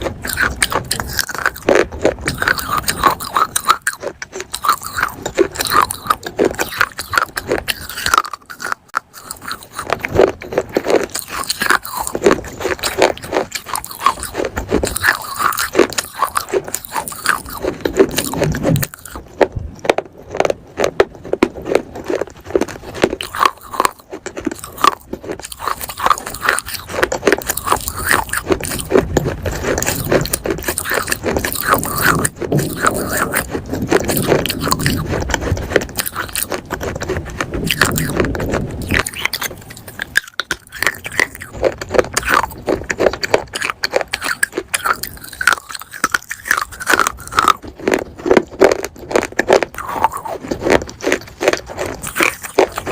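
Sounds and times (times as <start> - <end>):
crunchy chewing: 0.0 - 52.9.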